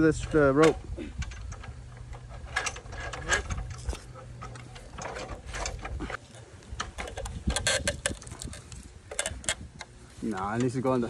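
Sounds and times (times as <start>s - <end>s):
metal parts clicking and rattling: 0.0s - 10.8s.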